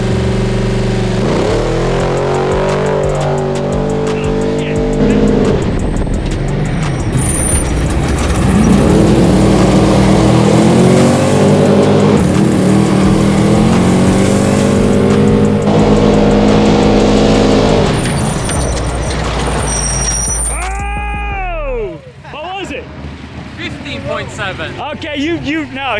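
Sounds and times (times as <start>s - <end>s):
rally car engine at full throttle: 0.0s - 20.8s.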